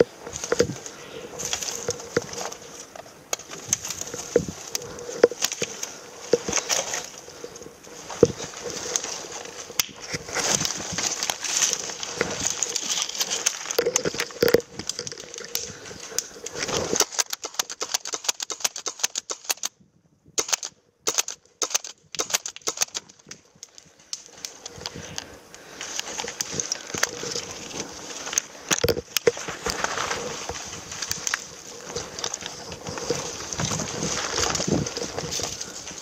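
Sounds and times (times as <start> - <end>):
dry leaves and twigs crackling: 0.0 - 19.8, 20.4 - 36.0.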